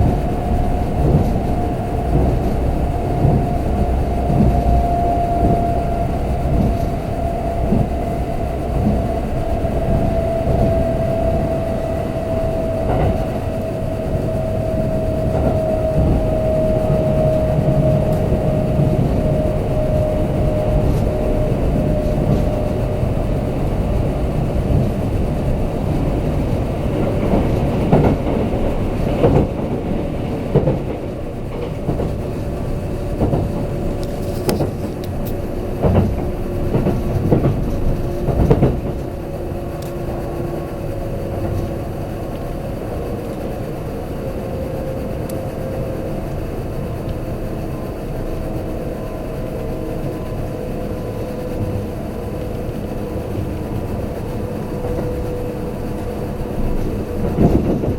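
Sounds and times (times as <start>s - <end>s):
train motor whine: 0.0s - 57.9s
train rolling noise: 0.0s - 57.9s.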